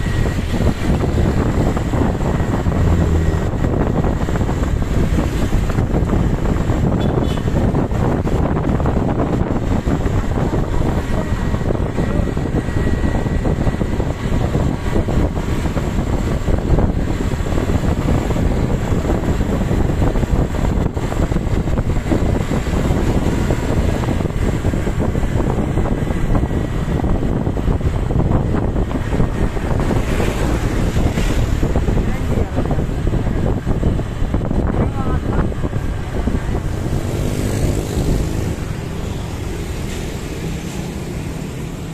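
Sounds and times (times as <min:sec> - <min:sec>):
road and engine noise: 0:00.0 - 0:41.9
wind buffeting microphone: 0:00.0 - 0:41.9.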